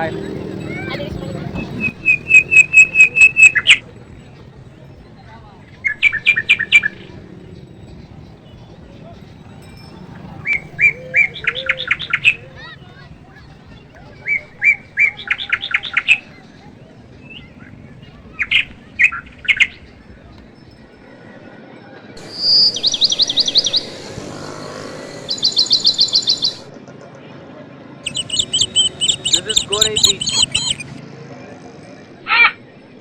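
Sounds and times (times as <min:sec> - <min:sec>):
bird chirping and trilling: 0:00.0 - 0:20.9, 0:22.2 - 0:26.7, 0:28.1 - 0:31.0.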